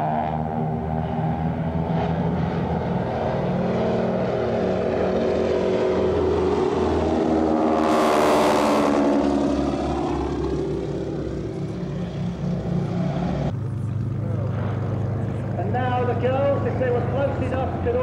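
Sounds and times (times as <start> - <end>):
biplane engines droning overhead: 0.0 - 18.0.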